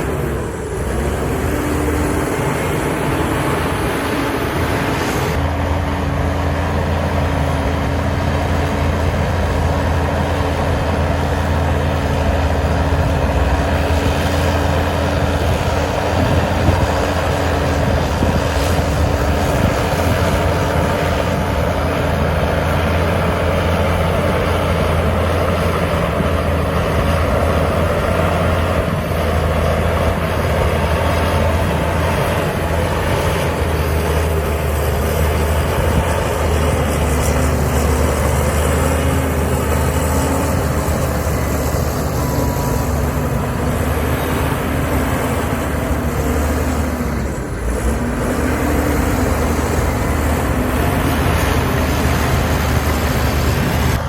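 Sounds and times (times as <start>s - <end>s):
diesel machinery engine hum: 0.0s - 54.0s.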